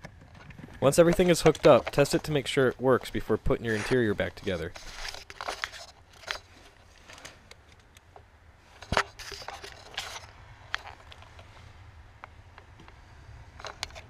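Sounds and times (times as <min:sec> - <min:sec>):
clicks and rustling of wires: 0:00.0 - 0:14.0.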